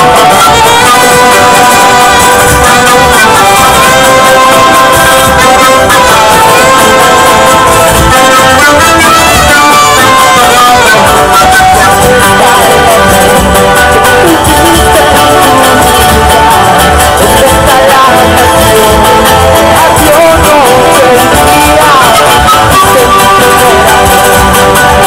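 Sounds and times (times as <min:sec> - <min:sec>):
live band music through a pa: 0:00.0 - 0:25.0.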